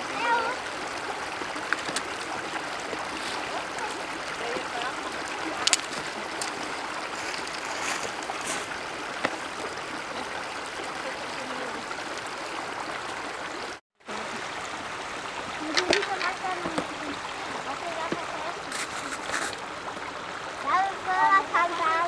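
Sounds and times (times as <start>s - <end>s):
water running over stones: 0.0s - 22.0s.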